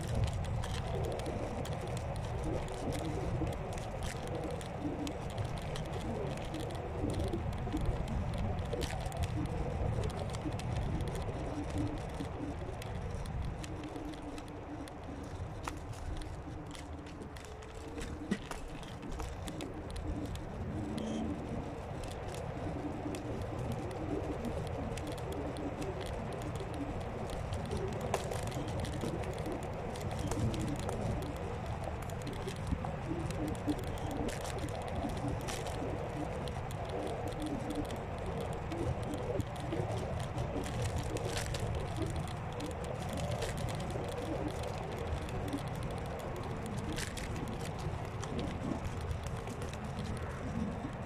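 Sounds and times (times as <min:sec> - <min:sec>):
scooter low rumble: 0:00.0 - 0:51.0
small clicks and rattles: 0:00.0 - 0:51.0
wind and tyre noise: 0:00.0 - 0:51.0.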